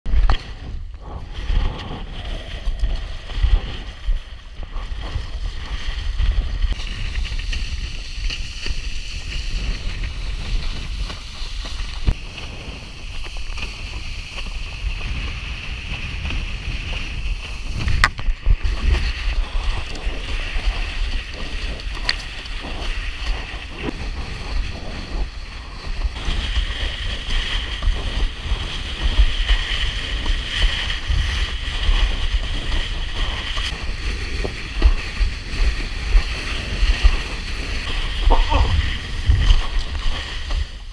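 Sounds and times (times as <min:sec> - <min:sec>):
board skimming across choppy water: 0:00.1 - 0:40.9
wind buffeting microphone: 0:00.1 - 0:40.9.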